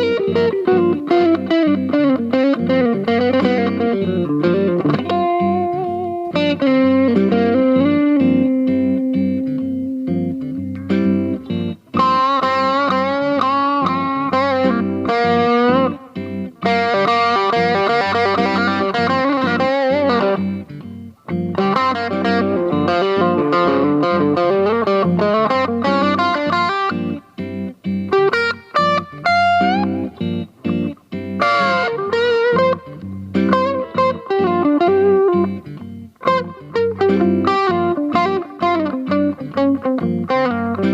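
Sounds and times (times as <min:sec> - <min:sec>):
electric guitar through amplifier: 0:00.0 - 0:40.9.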